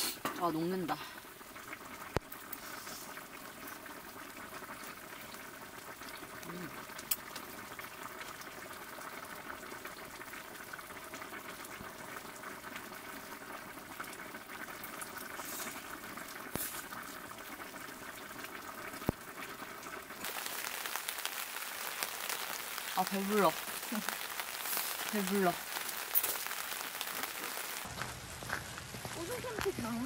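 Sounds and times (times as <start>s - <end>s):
broth bubbling in pot: 0.0s - 30.0s
rain on tent fabric: 0.0s - 30.0s.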